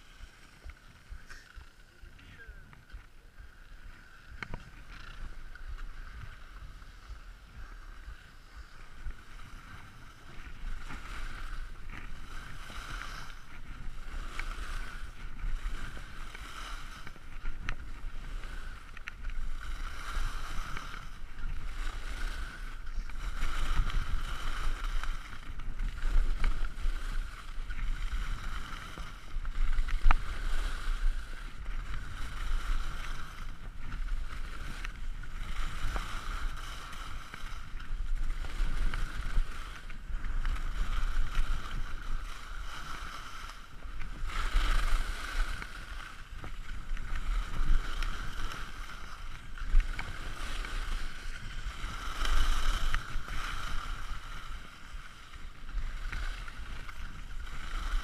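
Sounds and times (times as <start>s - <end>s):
skis scraping on hard snow: 0.0s - 58.0s
wind rumbling on microphone: 0.0s - 58.0s.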